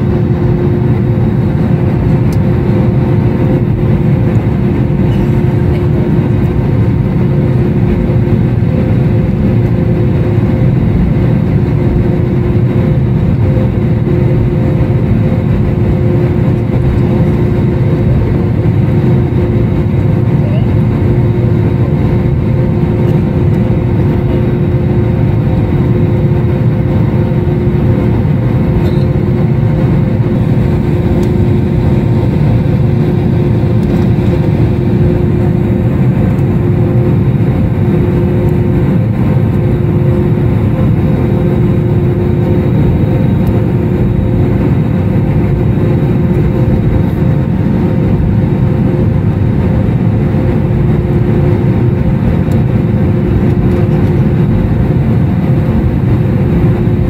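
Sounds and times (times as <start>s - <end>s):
aircraft cabin rumble: 0.0s - 57.0s
engine and air-system hum: 0.0s - 57.0s.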